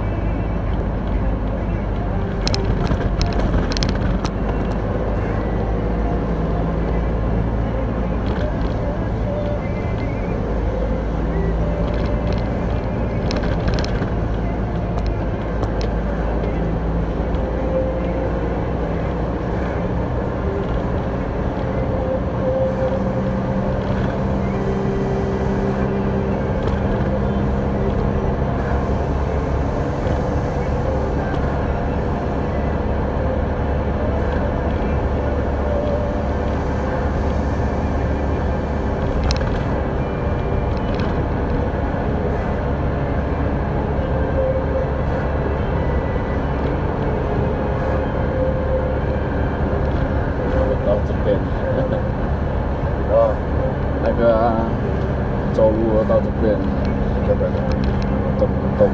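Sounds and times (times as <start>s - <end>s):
truck engine running: 0.0s - 58.9s
tyre and road noise: 0.0s - 58.9s.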